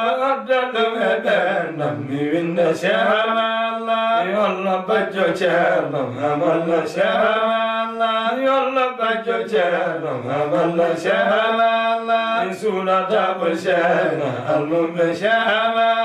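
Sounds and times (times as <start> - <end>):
two men chanting unaccompanied: 0.0 - 16.0.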